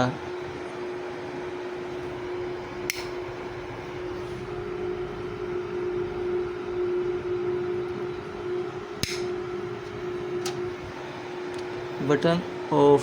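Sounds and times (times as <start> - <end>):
ups steady hum: 0.0 - 13.0.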